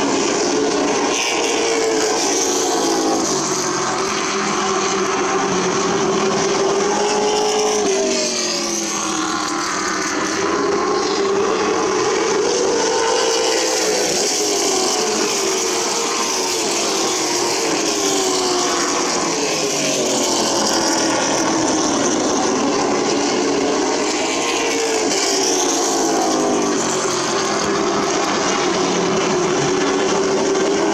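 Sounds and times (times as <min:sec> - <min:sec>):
race car engines running hard: 0:00.0 - 0:30.9.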